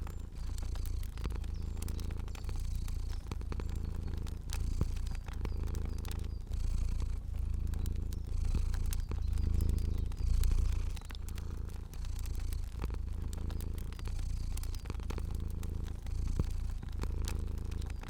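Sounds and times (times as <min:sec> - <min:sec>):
cat purring: 0:00.0 - 0:18.0
fire crackling: 0:00.0 - 0:18.0.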